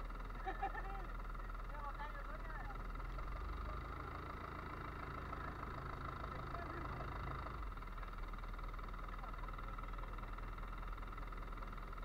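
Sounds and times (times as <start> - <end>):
boat engine idling: 0.0 - 12.0
wind: 0.0 - 12.0.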